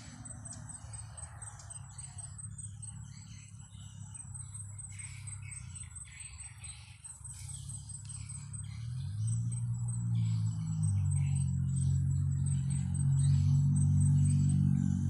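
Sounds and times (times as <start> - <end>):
birds chirping: 0.0 - 15.0
insect pulsing trill: 0.0 - 15.0.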